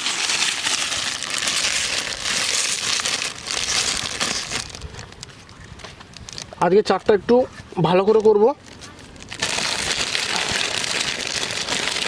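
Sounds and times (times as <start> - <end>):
plastic bag crinkling: 0.0 - 7.0, 7.9 - 12.0.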